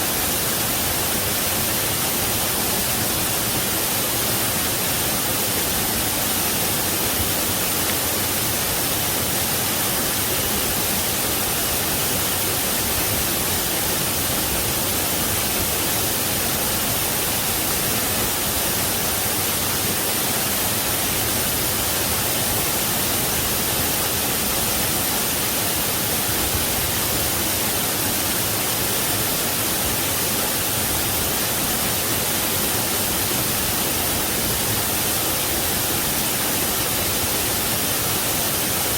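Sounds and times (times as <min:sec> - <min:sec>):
waterfall splashing: 0:00.0 - 0:38.9.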